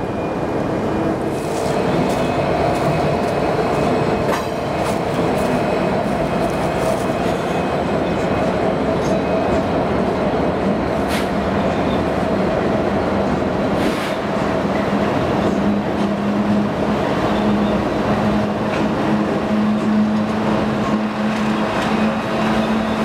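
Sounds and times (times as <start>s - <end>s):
locomotive engine droning: 0.0s - 23.0s.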